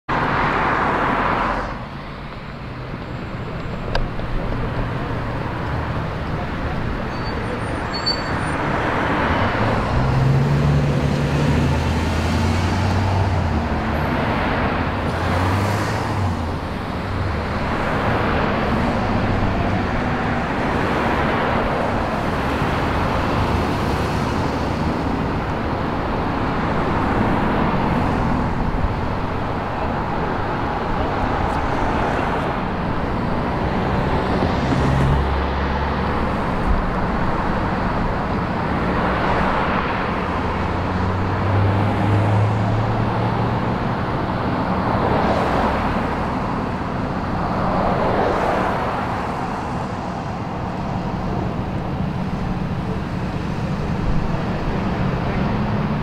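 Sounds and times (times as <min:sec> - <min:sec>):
cars passing: 0:00.1 - 0:56.0.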